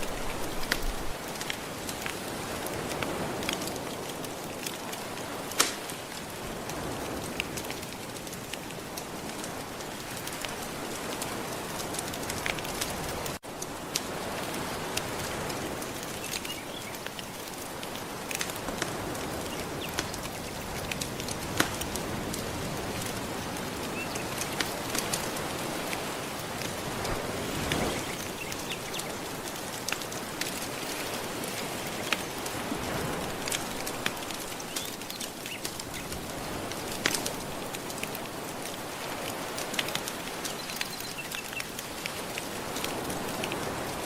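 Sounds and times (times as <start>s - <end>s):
gentle ocean surf: 0.0s - 44.0s
wood fire crackling and popping: 0.0s - 44.0s.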